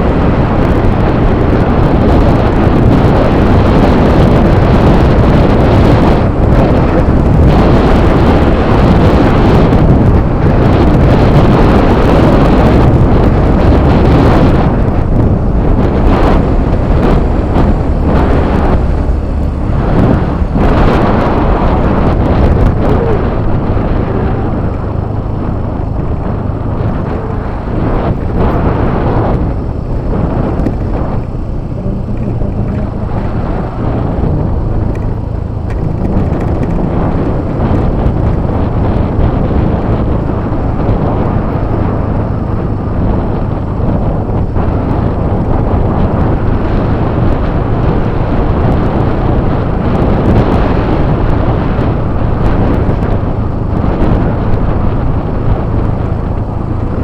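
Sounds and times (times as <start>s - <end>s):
road noise: 0.0s - 57.0s
scooter engine: 0.0s - 57.0s
wind rumbling on microphone: 0.0s - 57.0s.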